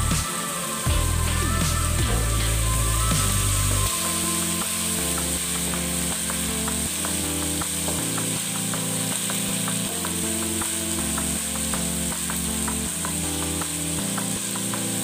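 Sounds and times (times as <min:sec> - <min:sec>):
background music chords: 0:00.0 - 0:15.0.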